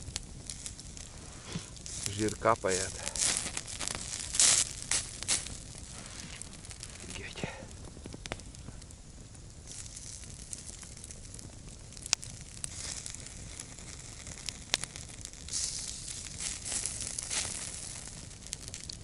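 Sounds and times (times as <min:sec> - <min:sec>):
campfire crackling: 0:00.0 - 0:19.0
fat dripping and hissing on coals: 0:00.0 - 0:19.0
sharp pops from fire: 0:00.0 - 0:19.0.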